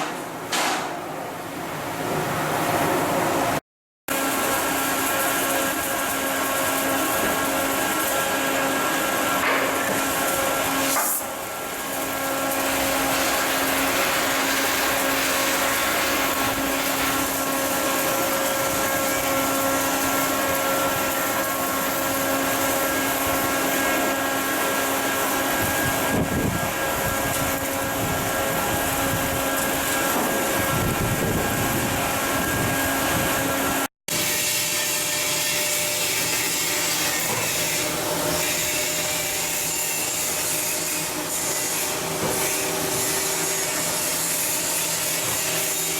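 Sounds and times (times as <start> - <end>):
machine hum with hiss: 0.0 - 45.9.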